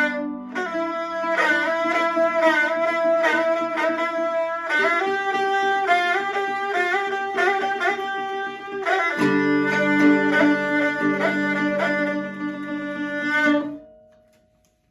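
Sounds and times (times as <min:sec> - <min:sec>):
bowed string melody: 0:00.0 - 0:14.4
plucked strings: 0:00.0 - 0:14.8.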